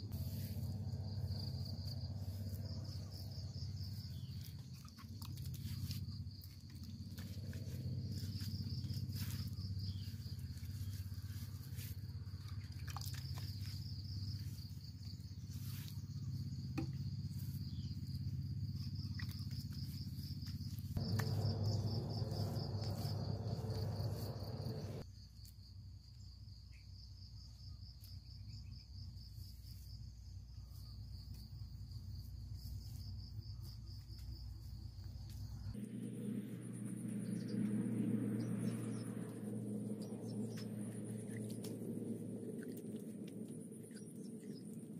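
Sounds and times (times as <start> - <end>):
constant low hum: 0.0 - 44.9
insects chirring: 0.0 - 44.9.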